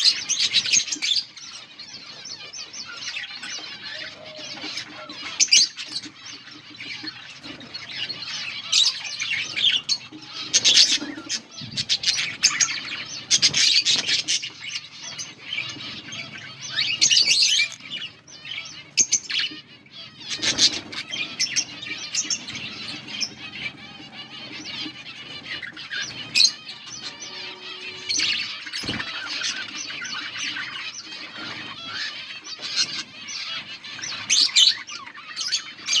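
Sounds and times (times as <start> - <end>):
budgerigars chirping: 0.0 - 36.0.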